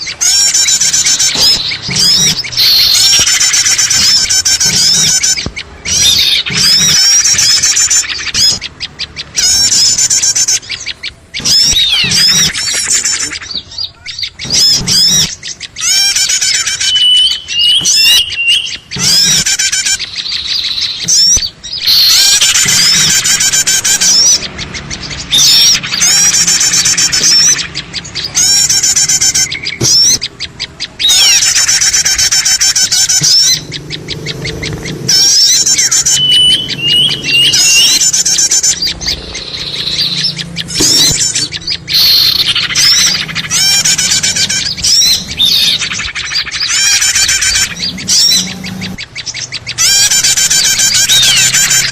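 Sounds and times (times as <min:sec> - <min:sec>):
small birds chirping and twittering: 0:00.0 - 0:51.9.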